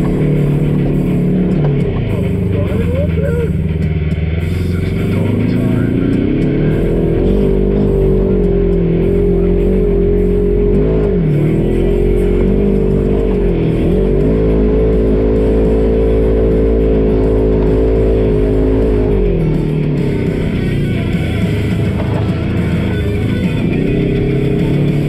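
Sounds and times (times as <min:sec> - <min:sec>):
guitar rock music: 0:00.0 - 0:25.0
vehicle engine revving: 0:00.0 - 0:25.0.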